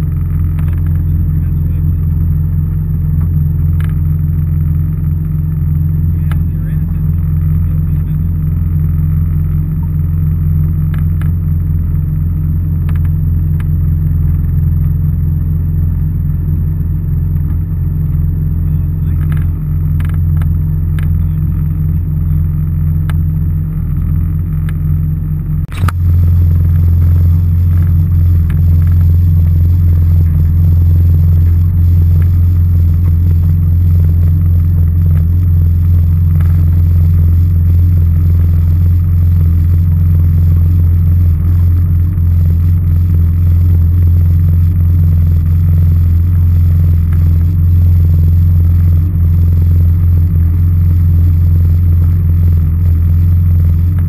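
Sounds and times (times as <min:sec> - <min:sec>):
jet ski engine idling: 0:00.0 - 0:54.0.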